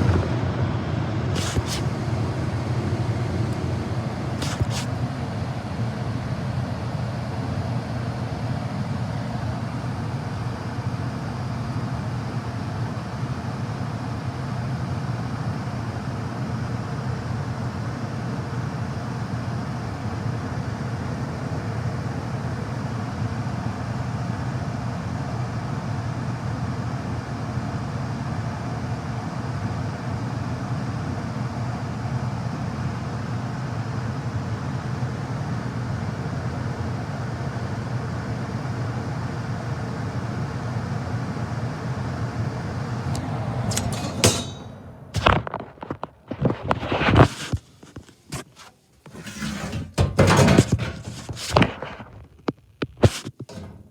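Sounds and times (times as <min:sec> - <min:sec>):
gas furnace running with low hum: 0:00.0 - 0:53.9.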